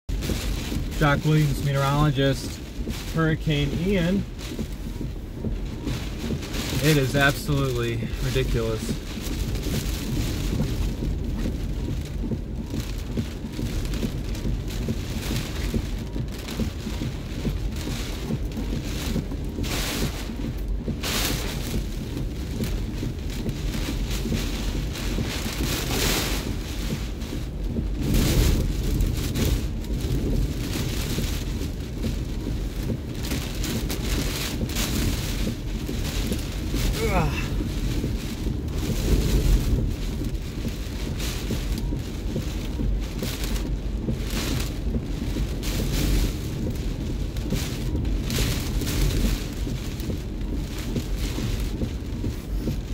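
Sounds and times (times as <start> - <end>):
rain drumming on windshield: 0.1 - 52.9
wind buffeting vehicle: 0.1 - 52.9.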